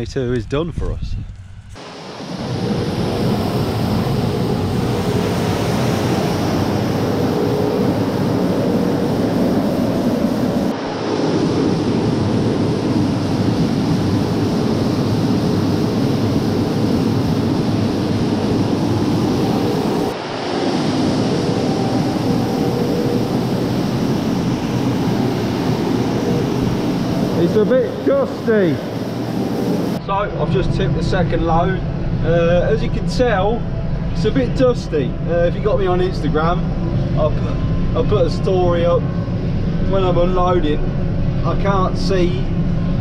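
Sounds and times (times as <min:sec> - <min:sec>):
machinery humming: 0:01.4 - 0:43.0.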